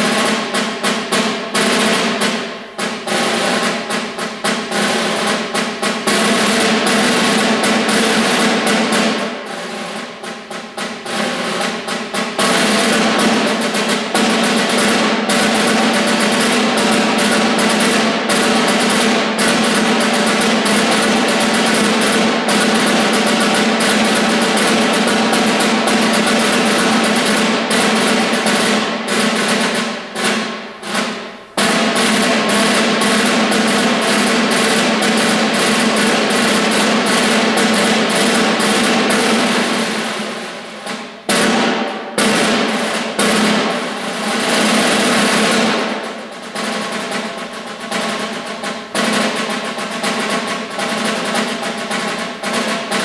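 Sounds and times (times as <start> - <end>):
snare drum rolls: 0.0 - 53.0.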